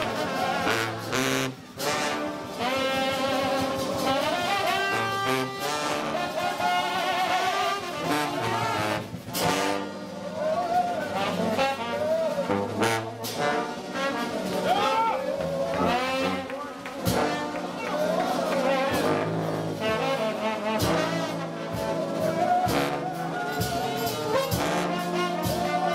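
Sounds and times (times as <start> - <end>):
trombone section playing: 0.0 - 25.9.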